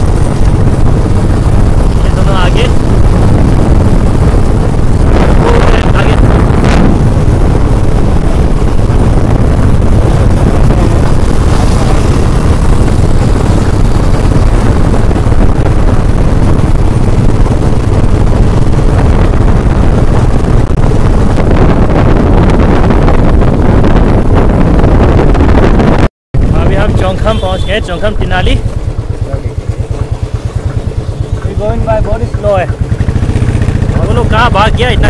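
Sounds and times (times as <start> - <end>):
motorcycle engine rumble: 0.0 - 35.0
wind buffeting microphone: 0.0 - 35.0.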